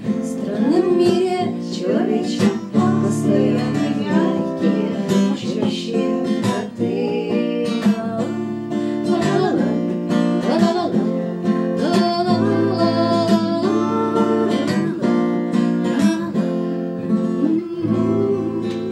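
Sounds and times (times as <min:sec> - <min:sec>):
acoustic guitar strumming: 0:00.0 - 0:18.9
woman singing: 0:00.0 - 0:18.9.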